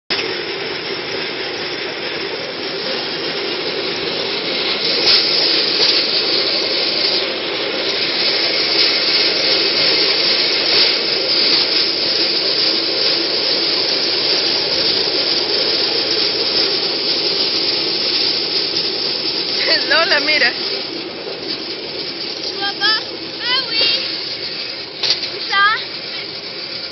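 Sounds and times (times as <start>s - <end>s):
wheels running on rails: 0.1s - 26.9s.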